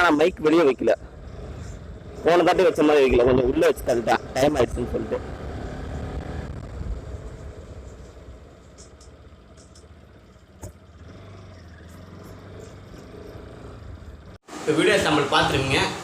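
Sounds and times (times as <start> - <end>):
motorcycle engine rumble: 0.0 - 16.0
road and wind noise: 0.0 - 16.0.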